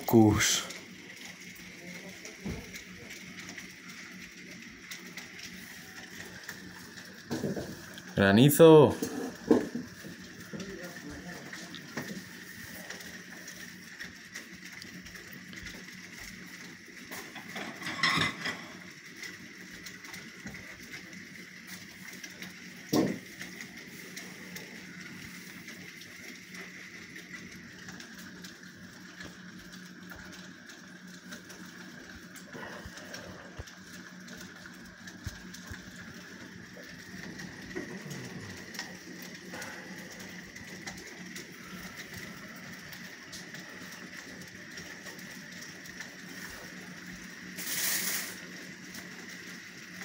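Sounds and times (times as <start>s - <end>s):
rain and hail on roof: 0.0s - 50.0s.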